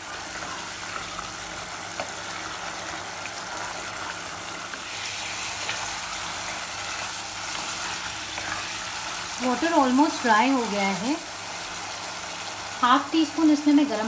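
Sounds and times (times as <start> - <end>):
food sizzling and bubbling in a pot: 0.0 - 14.0.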